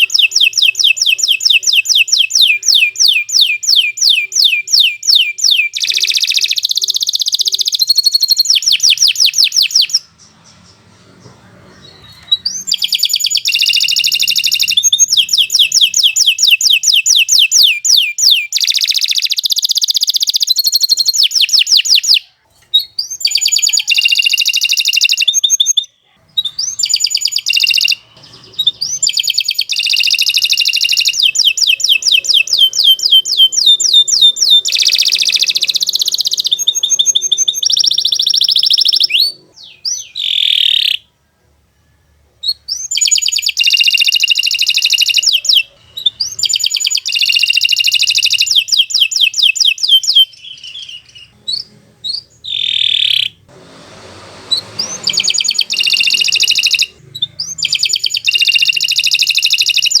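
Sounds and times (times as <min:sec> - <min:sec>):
canary singing fast trills: 0:00.0 - 1:00.0.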